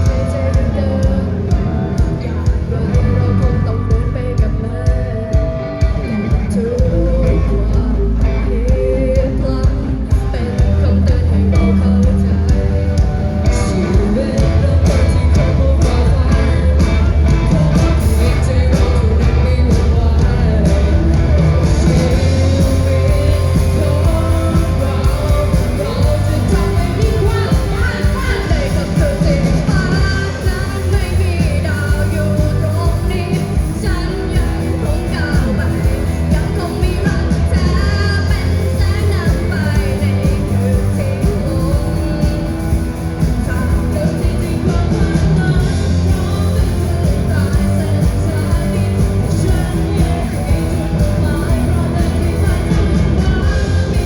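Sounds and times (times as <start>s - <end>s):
drums and bass beat: 0.0s - 54.0s
live rock band playing: 0.0s - 54.0s
person singing: 0.0s - 54.0s.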